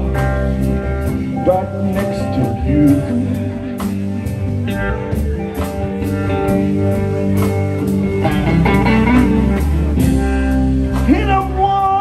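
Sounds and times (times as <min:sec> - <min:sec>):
blues band playing: 0:00.0 - 0:12.0
guitar: 0:00.0 - 0:12.0.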